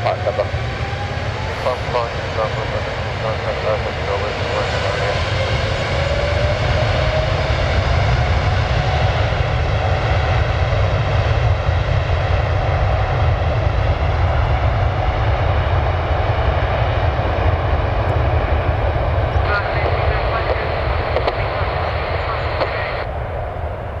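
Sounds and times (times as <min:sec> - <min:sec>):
jet engine whine: 0:00.0 - 0:24.0
jet engines roaring at takeoff: 0:00.0 - 0:24.0.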